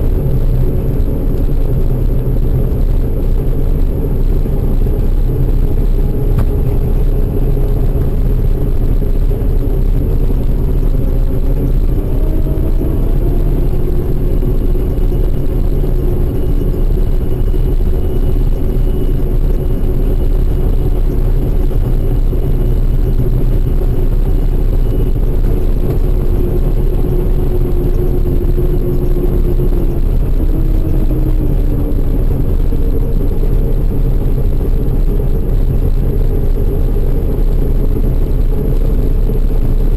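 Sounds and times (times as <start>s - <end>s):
machinery engine rumbling under load: 0.0s - 39.9s.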